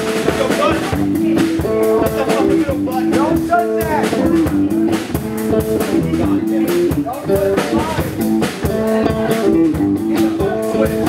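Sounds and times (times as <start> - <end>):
drum kit: 0.0 - 11.0
electric guitars: 0.0 - 11.0.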